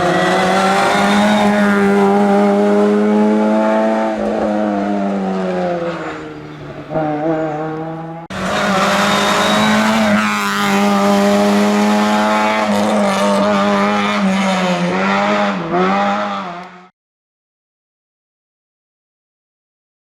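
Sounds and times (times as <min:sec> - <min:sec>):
rally car engine at high revs: 0:00.0 - 0:16.9.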